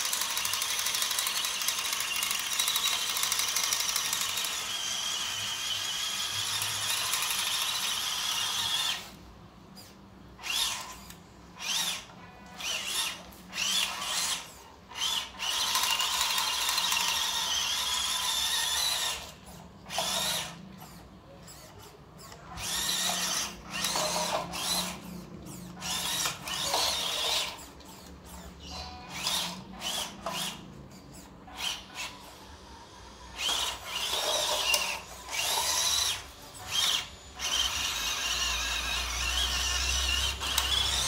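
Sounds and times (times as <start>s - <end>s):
small electric motor whining: 0.0s - 41.0s.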